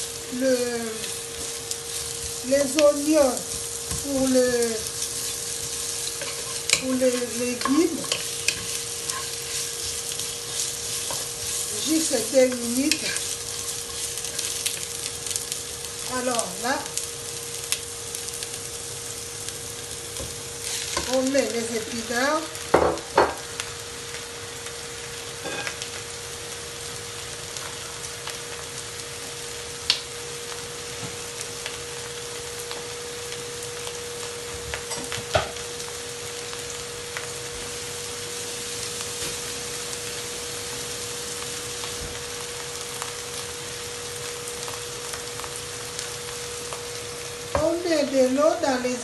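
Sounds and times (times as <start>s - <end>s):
onions sizzling in oil: 0.0s - 49.0s.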